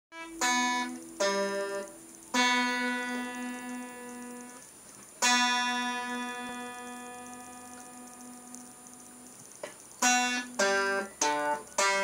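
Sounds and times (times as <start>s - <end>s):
guitar strums ringing: 0.2s - 4.6s, 5.2s - 12.0s.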